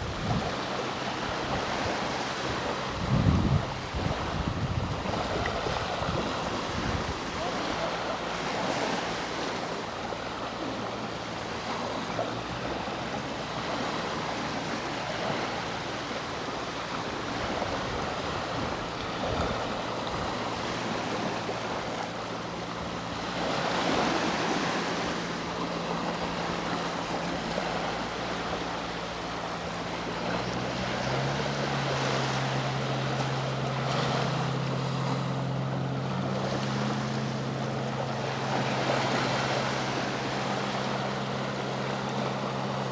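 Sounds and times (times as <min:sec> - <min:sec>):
boat engine hum: 0:00.0 - 0:42.9
sea waves washing on shore: 0:00.0 - 0:42.9.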